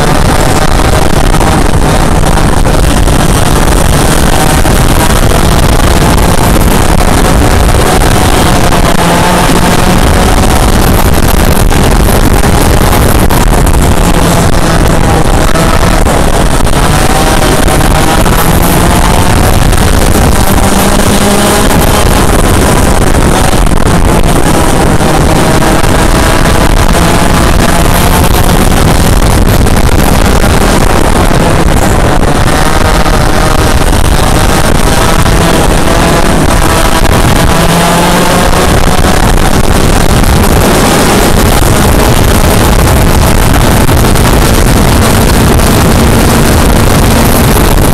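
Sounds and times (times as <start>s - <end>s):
kart engine revving: 0.0s - 47.9s
wind buffeting microphone: 0.0s - 47.9s.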